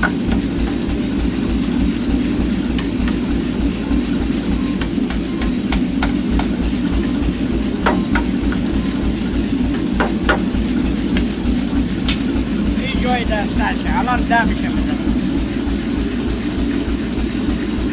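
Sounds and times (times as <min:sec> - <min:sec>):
steady machine drone: 0:00.0 - 0:17.9.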